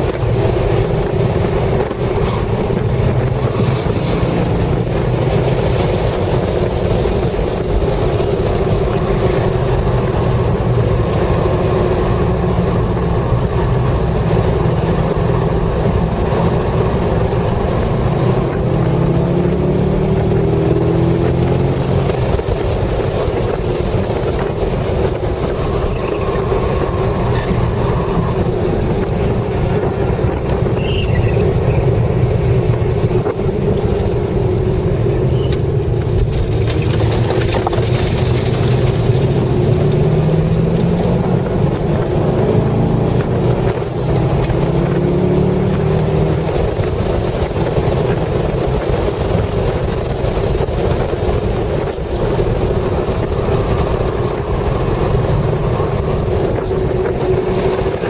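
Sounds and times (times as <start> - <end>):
car engine revving hard: 0.0 - 30.6, 36.5 - 58.0
wind rush: 0.0 - 58.0.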